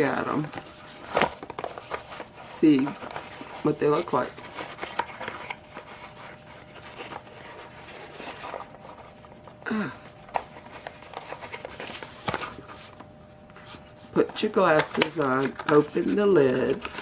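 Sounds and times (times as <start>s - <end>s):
package rustling: 0.0s - 17.0s.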